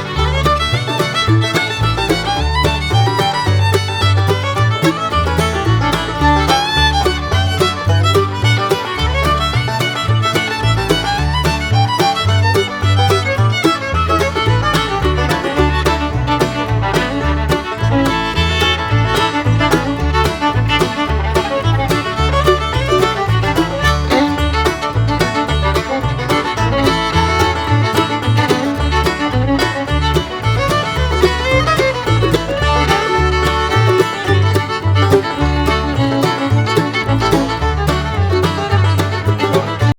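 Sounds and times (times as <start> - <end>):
instrumental music with bass beat: 0.0 - 39.9.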